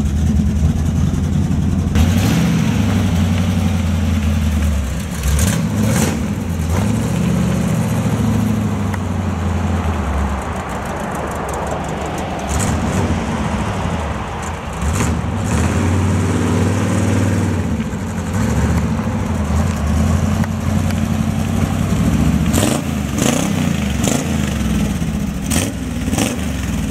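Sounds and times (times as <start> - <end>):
truck engine running: 0.0 - 26.9.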